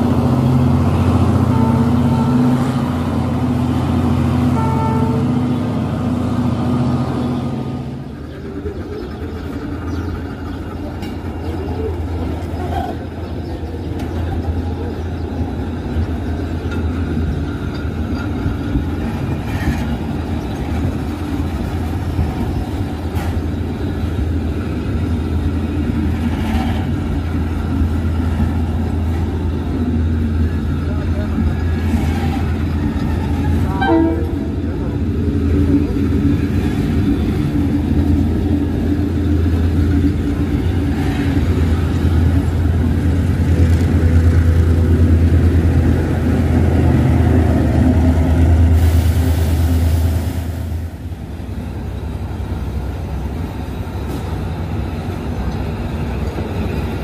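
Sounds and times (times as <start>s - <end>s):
coaches rumbling on rails: 0.0s - 57.0s
diesel locomotive engine humming: 0.0s - 57.0s.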